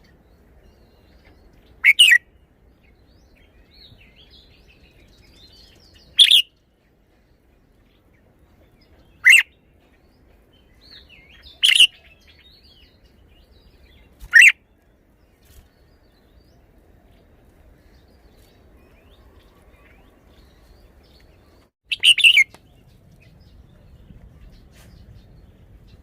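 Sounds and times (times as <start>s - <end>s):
bird song phrases: 0.0s - 26.0s
twittering bird chirps: 0.8s - 6.5s, 8.9s - 9.6s, 10.7s - 26.0s.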